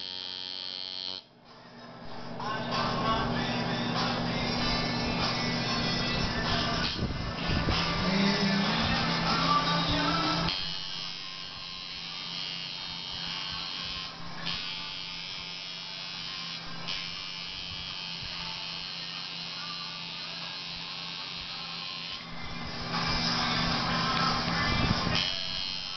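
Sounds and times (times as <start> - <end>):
tattoo machine buzzing: 0.0 - 1.3, 2.0 - 25.9.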